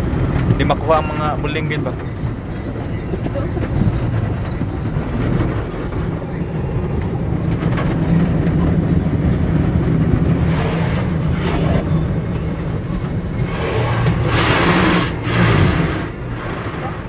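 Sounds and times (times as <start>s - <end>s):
car wash rumble: 0.0s - 17.0s.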